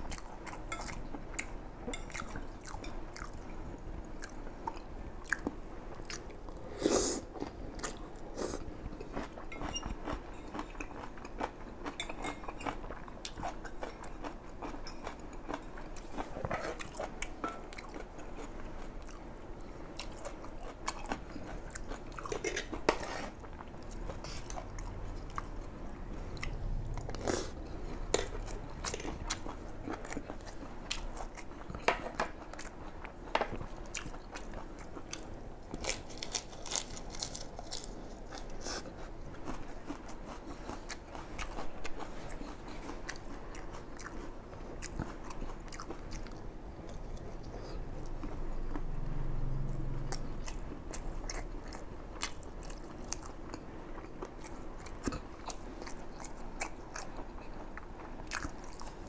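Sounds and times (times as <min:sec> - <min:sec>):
chewing fried rice: 0:00.0 - 0:59.0.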